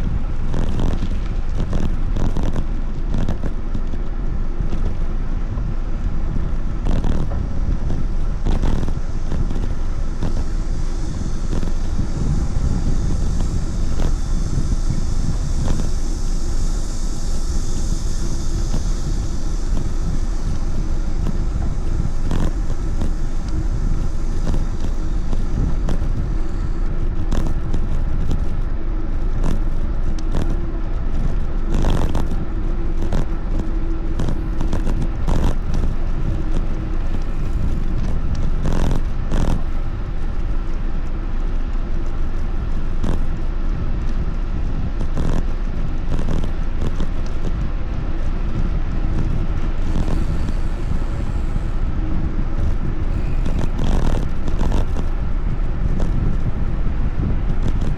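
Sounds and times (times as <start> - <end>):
wind and road noise rumble: 0.0 - 57.9.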